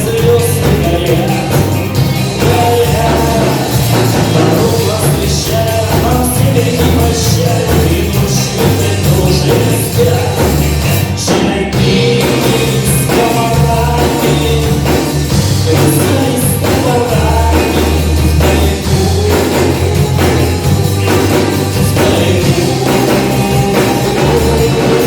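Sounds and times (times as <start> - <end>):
bass line: 0.0 - 25.0
live rock band playing: 0.0 - 25.0.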